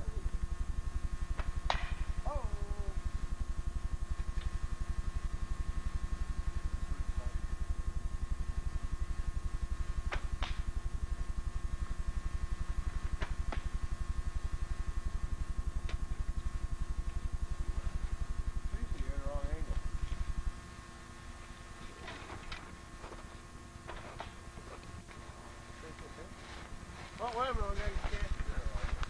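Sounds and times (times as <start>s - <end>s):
electrical hum and buzz: 0.0s - 29.0s.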